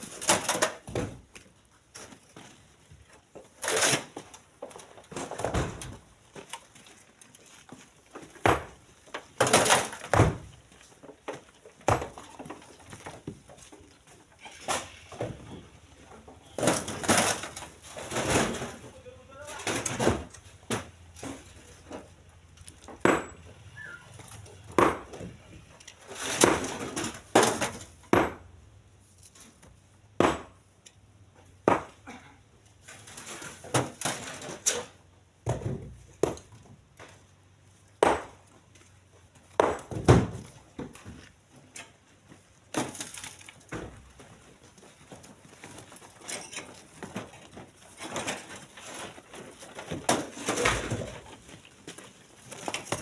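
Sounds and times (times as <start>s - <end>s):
stones clattering into truck bed: 0.0s - 15.7s, 16.3s - 23.5s, 24.3s - 25.4s, 26.0s - 28.5s, 32.8s - 37.2s, 39.3s - 53.0s.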